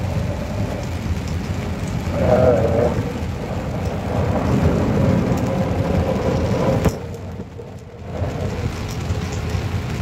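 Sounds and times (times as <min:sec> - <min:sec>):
heavy rain on car: 0:00.0 - 0:10.0
road rumble: 0:00.0 - 0:10.0.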